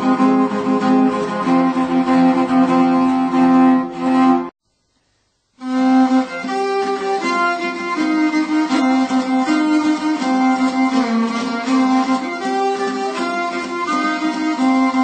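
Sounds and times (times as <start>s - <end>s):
bowed strings music: 0.0s - 4.5s, 5.6s - 15.0s.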